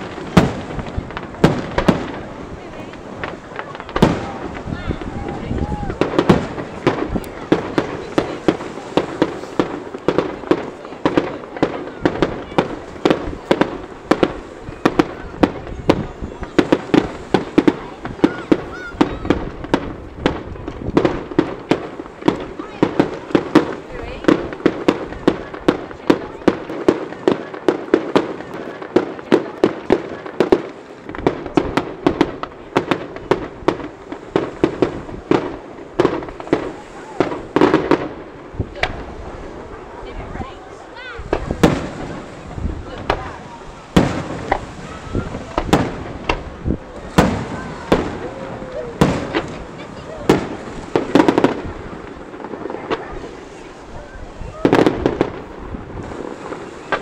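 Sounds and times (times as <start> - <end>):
firework shells bursting: 0.0 - 39.9, 41.2 - 53.7.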